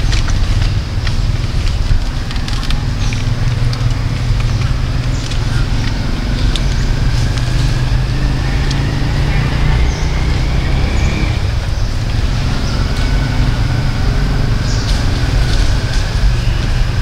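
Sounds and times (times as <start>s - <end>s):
passing vehicle whine: 0.0s - 17.0s
road traffic rumble: 0.0s - 17.0s.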